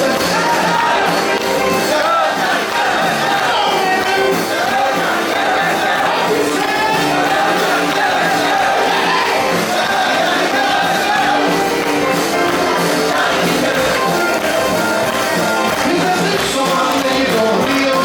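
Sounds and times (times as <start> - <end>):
live rock and roll band: 0.0 - 18.0.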